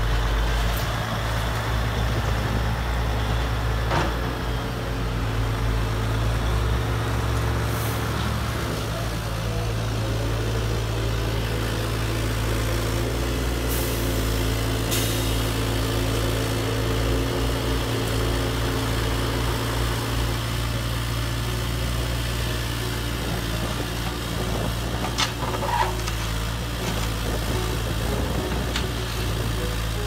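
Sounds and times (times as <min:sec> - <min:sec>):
engine-like idling drone: 0:00.0 - 0:30.0.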